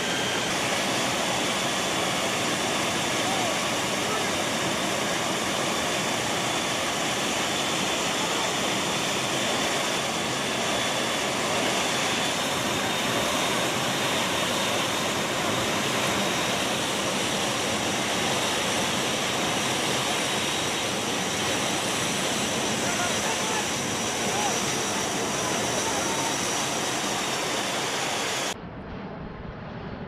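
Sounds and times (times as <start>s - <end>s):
aircraft engine rush in cabin: 0.0s - 30.0s
faint high whines: 0.0s - 30.0s.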